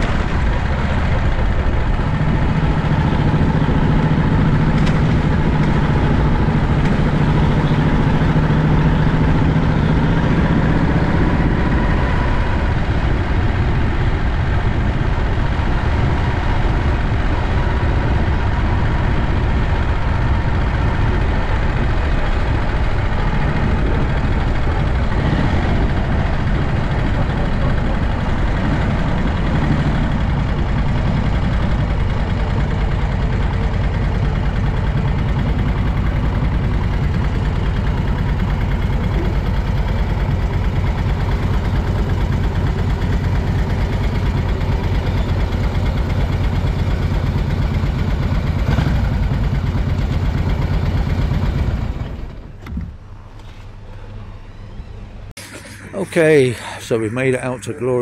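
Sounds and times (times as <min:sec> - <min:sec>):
motorcycle engine running: 0:00.0 - 0:53.1.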